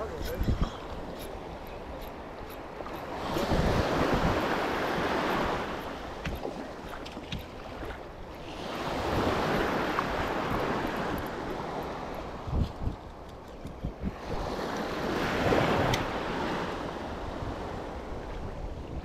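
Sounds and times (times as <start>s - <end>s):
sea waves surging: 0.0s - 13.2s, 14.0s - 18.7s
wind buffeting microphone: 0.0s - 19.0s.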